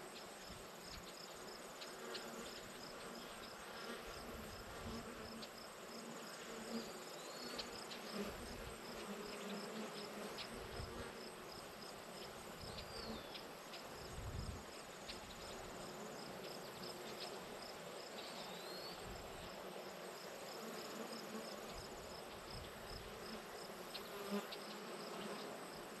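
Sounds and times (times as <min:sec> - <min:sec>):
constant insect hum: 0:00.0 - 0:26.0
pulsing high insect chirp: 0:00.1 - 0:26.0.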